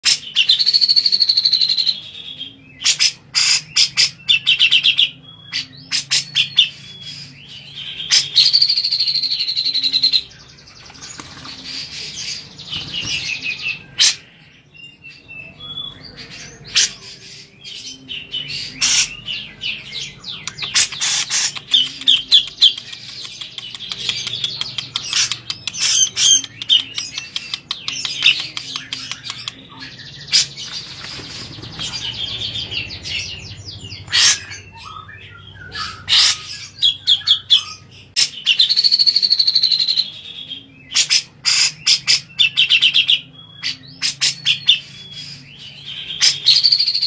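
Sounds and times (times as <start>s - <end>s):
bird chirping and trilling: 0.0s - 47.0s.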